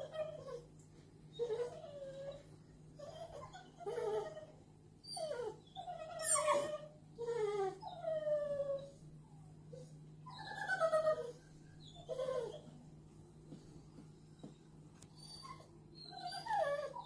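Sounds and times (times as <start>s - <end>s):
puppy whining: 0.0s - 12.9s, 14.3s - 17.0s.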